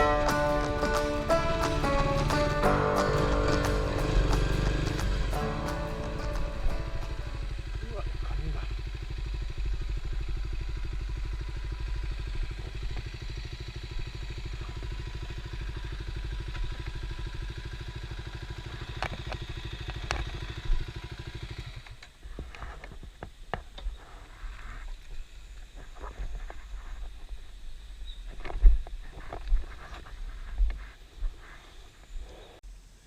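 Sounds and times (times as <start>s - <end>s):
motorcycle engine idling: 0.0s - 32.4s.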